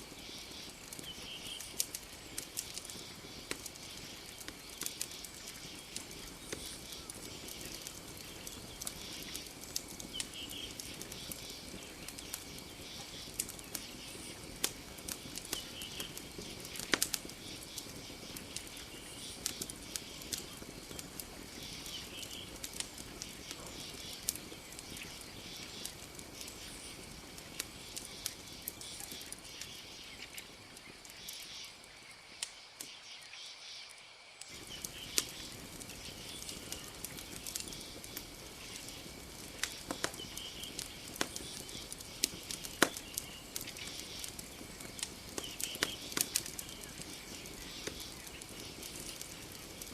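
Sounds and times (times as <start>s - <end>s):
campfire crackling and popping: 0.0s - 49.9s
night insects droning: 0.0s - 49.9s.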